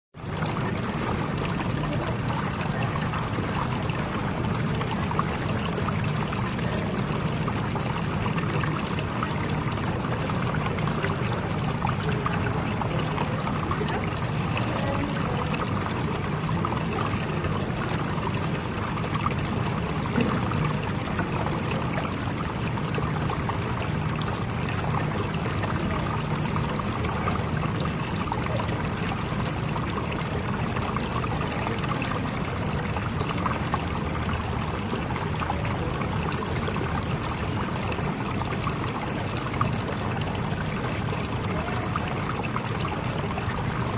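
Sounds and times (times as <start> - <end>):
fountain water trickling: 0.2 - 43.9.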